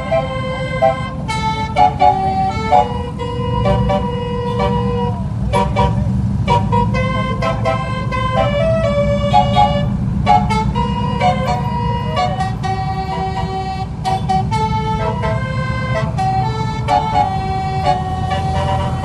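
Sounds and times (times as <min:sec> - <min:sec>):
low engine and road rumble: 0:00.0 - 0:19.0
musical truck horns: 0:00.0 - 0:19.0.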